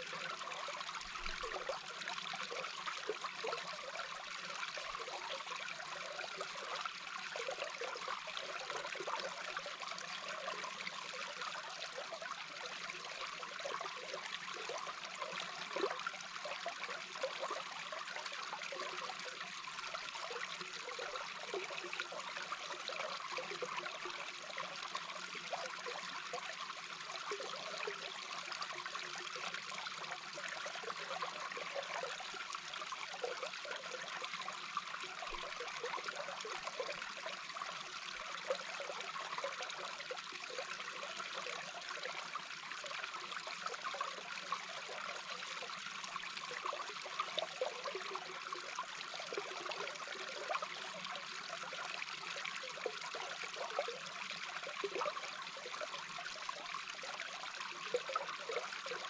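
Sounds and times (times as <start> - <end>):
water bubbling and gurgling: 0.0 - 59.0.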